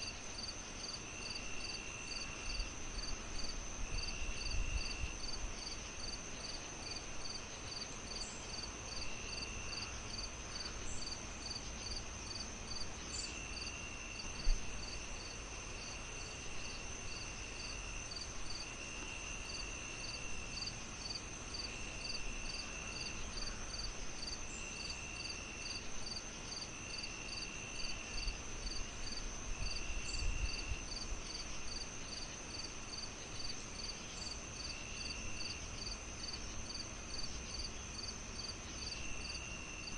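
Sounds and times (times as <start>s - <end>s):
crickets chirping: 0.0s - 39.9s
high insect buzz and trills: 0.0s - 39.9s.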